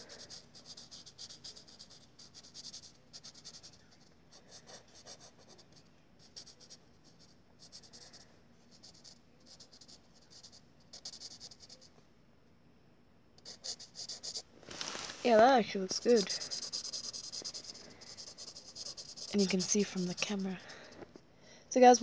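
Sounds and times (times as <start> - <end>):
marker scratching on paper: 0.0 - 11.9, 13.4 - 14.4, 15.2 - 20.9.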